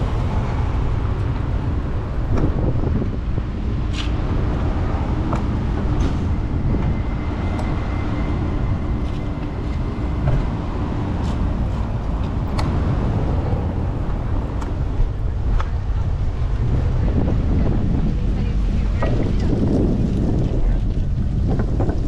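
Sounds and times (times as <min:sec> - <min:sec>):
street traffic: 0:00.0 - 0:22.0
wind rushing over microphone: 0:00.0 - 0:22.0.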